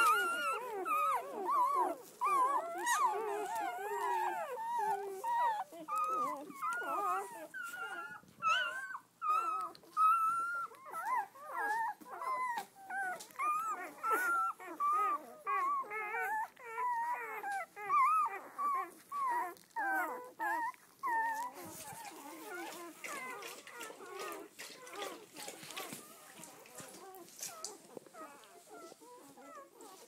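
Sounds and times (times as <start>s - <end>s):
puppies whimpering and squealing: 0.0s - 30.0s.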